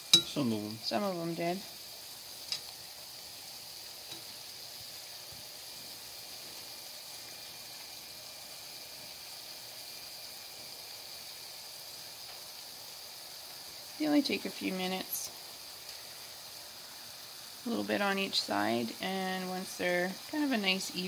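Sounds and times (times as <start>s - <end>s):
dough deep-frying in oil: 0.0s - 21.0s.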